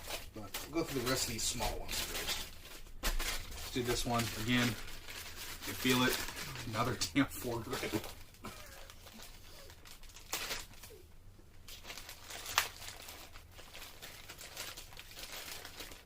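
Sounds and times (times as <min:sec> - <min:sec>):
bag crackle: 0:00.0 - 0:11.0, 0:11.6 - 0:16.0
packaging bag rustling: 0:00.0 - 0:11.0, 0:11.6 - 0:16.0.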